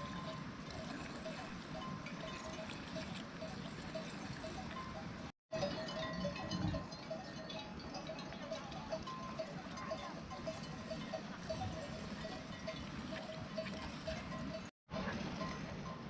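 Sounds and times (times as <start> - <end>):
sheep bells clinking: 0.0 - 16.0.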